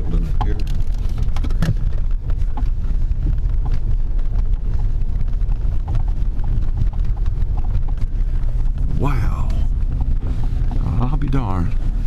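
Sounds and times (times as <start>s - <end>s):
knocks and rattles in cab: 0.0s - 12.0s
truck engine rumble: 0.0s - 12.0s.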